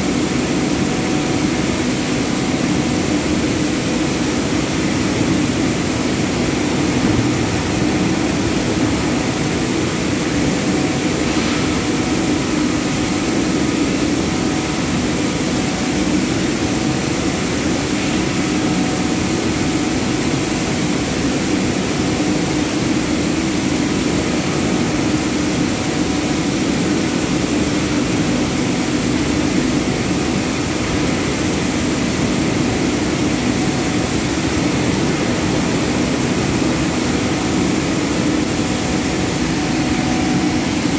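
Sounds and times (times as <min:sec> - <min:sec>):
industrial machinery hum: 0:00.0 - 0:40.9.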